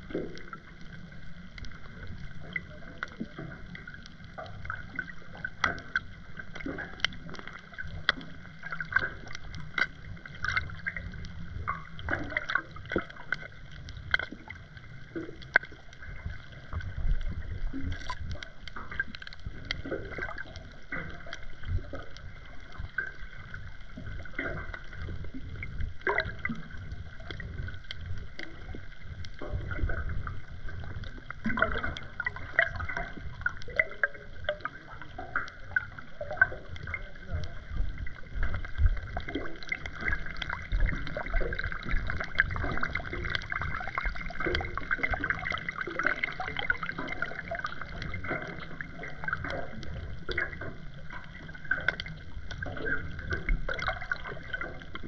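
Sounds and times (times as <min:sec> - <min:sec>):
underwater clicks and crackles: 0:00.0 - 0:55.0
underwater rumble of moving water: 0:00.0 - 0:55.0.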